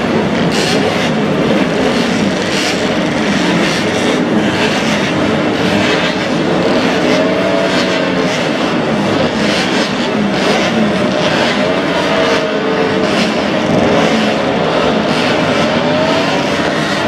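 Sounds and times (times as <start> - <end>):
racing motorcycle engines revving: 0.0 - 17.0.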